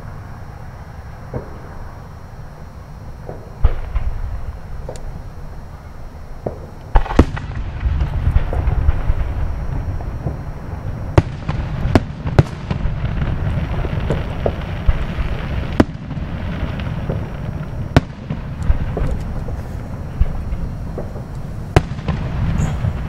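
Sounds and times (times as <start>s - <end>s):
continuous low rumble: 0.0s - 23.0s
distant fireworks bangs: 0.0s - 23.0s.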